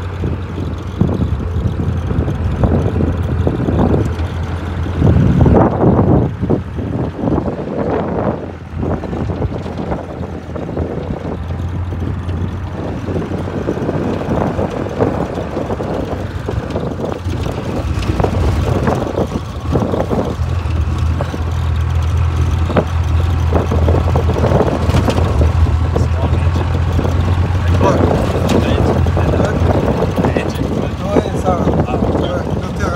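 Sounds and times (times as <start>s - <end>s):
engine drone: 0.0s - 32.9s
vehicle body knocking and rattling: 0.0s - 32.9s.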